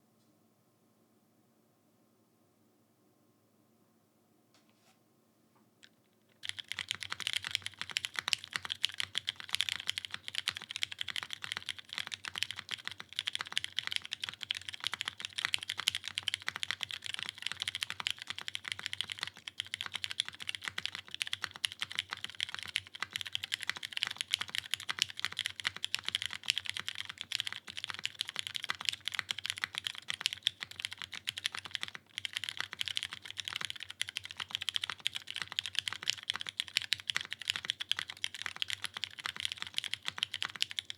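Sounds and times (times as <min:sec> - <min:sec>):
mechanical keyboard typing: 0:06.4 - 0:40.9.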